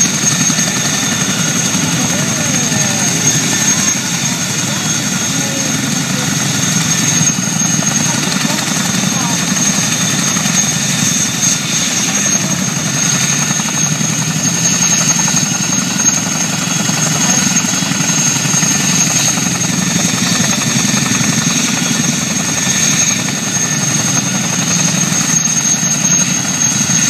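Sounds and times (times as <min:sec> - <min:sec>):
helicopter rotor thrum: 0:00.0 - 0:27.0
high turbine whine: 0:00.0 - 0:27.0.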